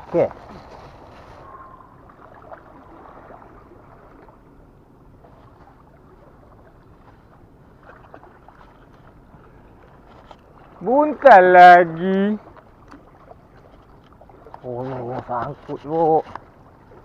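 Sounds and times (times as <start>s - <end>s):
small waves on rocky shore: 0.0s - 17.0s.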